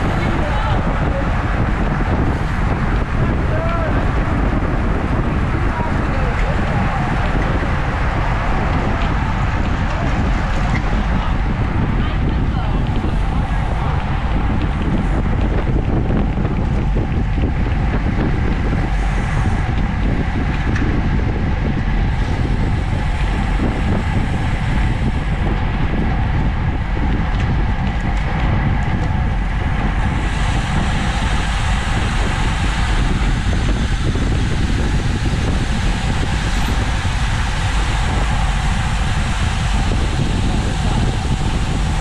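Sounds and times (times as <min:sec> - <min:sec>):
road and tyre hiss: 0:00.0 - 0:42.0
wind buffeting microphone: 0:00.0 - 0:42.0.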